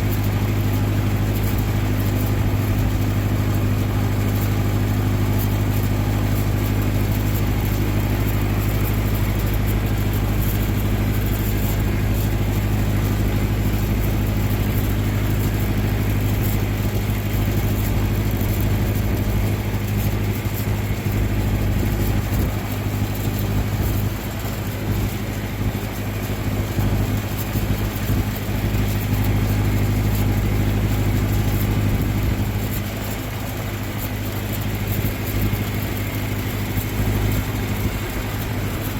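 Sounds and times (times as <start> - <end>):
tractor engine running under load: 0.0 - 38.9.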